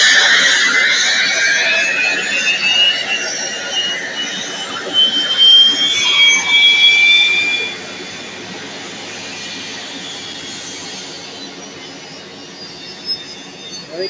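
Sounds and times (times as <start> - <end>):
aircraft turbine engine whining: 0.0 - 14.0.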